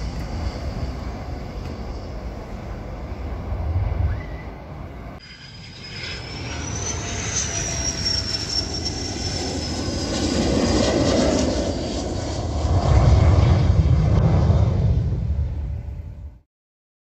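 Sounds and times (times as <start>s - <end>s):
deep jet roar: 0.0s - 16.4s
jet engine whine: 0.0s - 16.5s.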